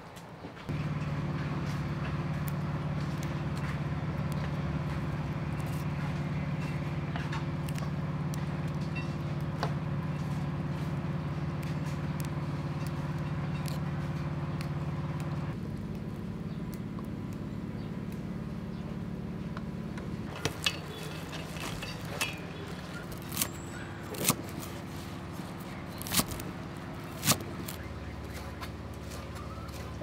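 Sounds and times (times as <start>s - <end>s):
motor humming: 0.7s - 30.0s
herb stems snapping: 1.6s - 30.0s.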